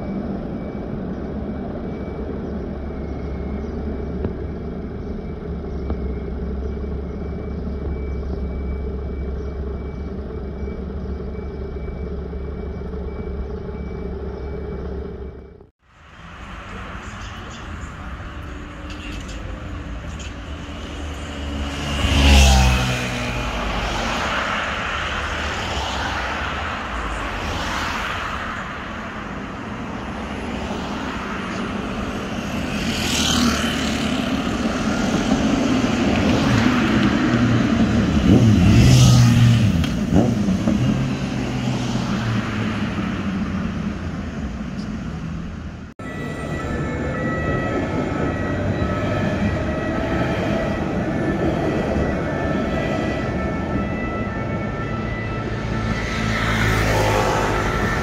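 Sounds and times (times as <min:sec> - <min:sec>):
cars passing: 0:00.0 - 0:58.0
steady traffic noise: 0:00.0 - 0:58.0.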